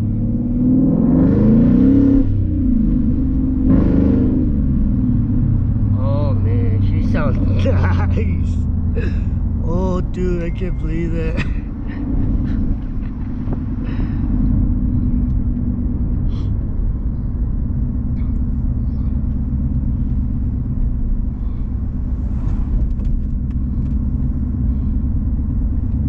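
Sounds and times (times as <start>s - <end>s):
car engine and exhaust rumble: 0.0s - 26.0s.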